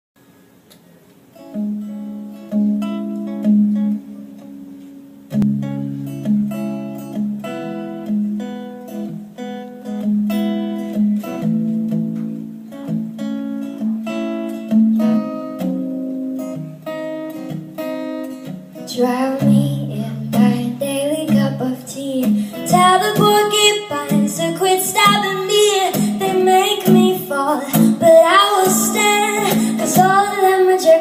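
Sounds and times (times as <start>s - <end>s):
acoustic guitar playing: 0.3s - 31.0s.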